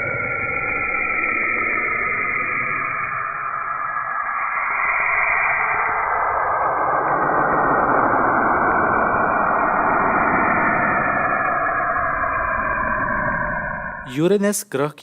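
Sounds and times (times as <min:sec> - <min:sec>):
eerie hiss with shifting tones: 0:00.0 - 0:14.1.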